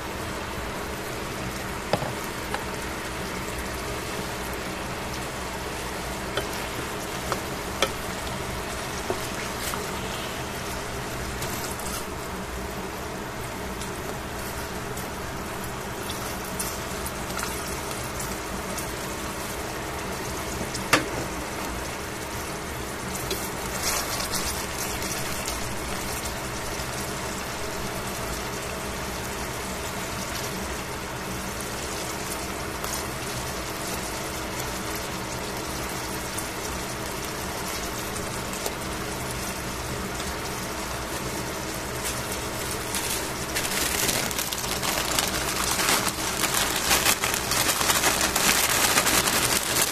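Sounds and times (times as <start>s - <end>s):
beef sizzling in a pan: 0.8s - 49.9s.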